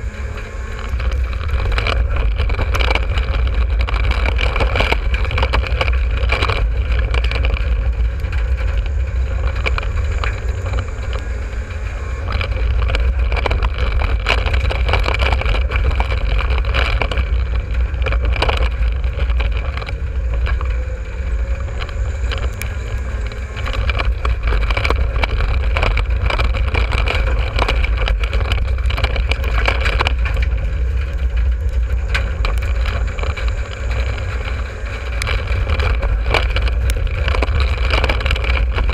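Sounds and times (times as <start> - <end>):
knocks and rattles: 0.0 - 38.9
race car engine rumbling: 0.0 - 38.9.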